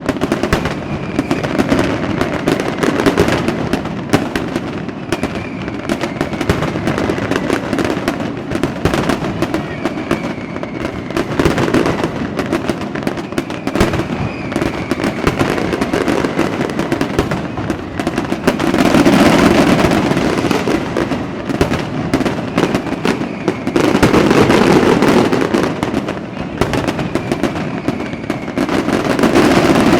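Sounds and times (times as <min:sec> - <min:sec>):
fireworks crackling and popping: 0:00.0 - 0:29.9
rockets whistling: 0:00.1 - 0:29.9.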